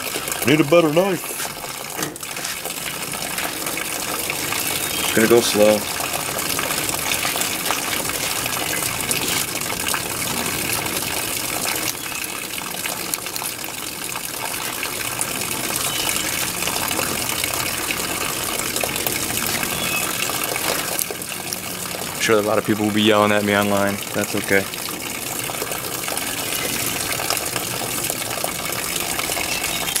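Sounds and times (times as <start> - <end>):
water running from hose: 0.0 - 30.0.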